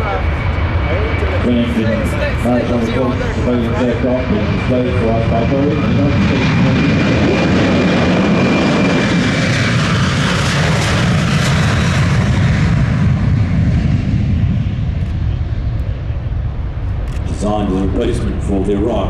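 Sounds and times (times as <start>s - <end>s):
loud jet roar: 0.0s - 19.0s.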